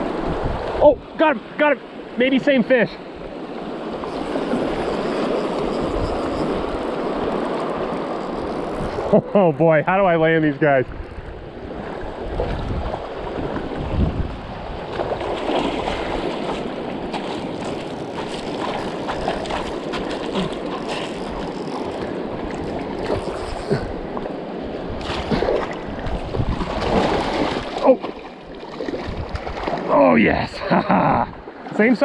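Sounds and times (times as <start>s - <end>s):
wind buffeting microphone: 0.0s - 1.1s, 3.2s - 9.1s, 10.5s - 28.2s, 28.8s - 30.0s.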